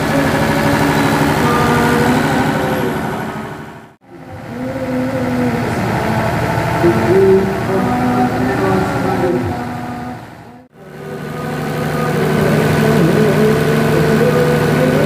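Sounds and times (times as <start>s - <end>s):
diesel generator engine running: 0.0s - 15.0s.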